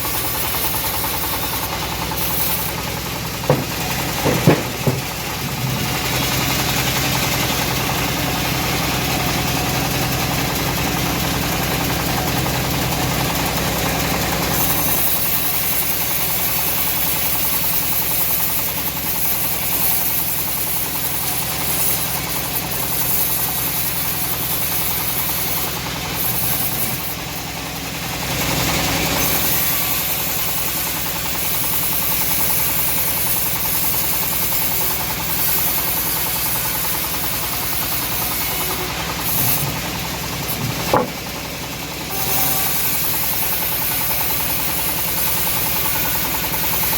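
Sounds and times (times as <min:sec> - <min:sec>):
engine-driven bandsaw mill sawing: 0:00.0 - 0:46.9.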